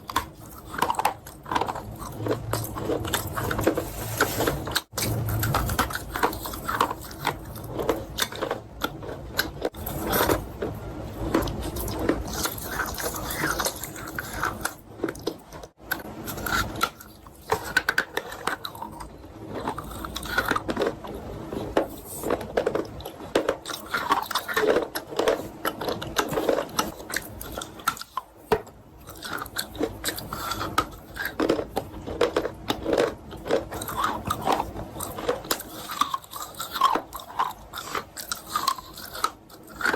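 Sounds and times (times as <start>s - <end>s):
wet crunchy chewing: 0.0s - 39.9s.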